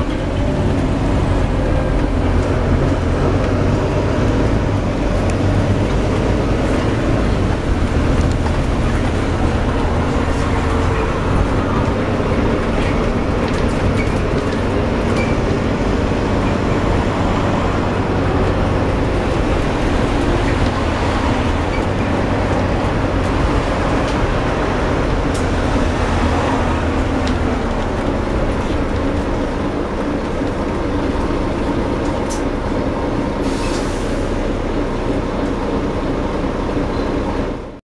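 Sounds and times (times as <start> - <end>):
bus driving: 0.0 - 37.8.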